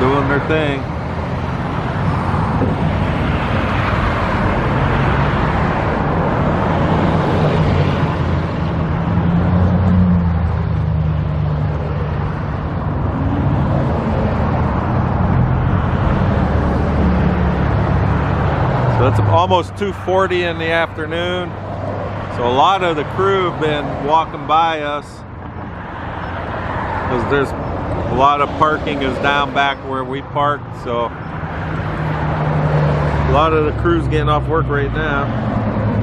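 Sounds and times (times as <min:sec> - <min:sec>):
vehicle engines passing: 0:00.0 - 0:36.0.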